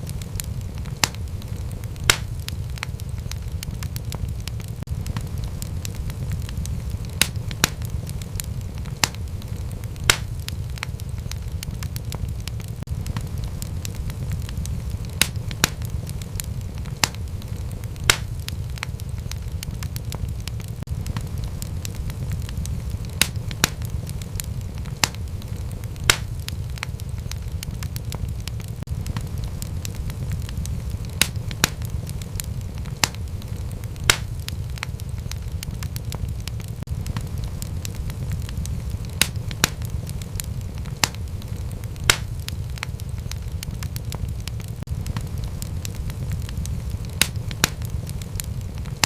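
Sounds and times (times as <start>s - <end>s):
low rumble of flame: 0.0s - 49.0s
wood fire crackling: 0.0s - 49.0s.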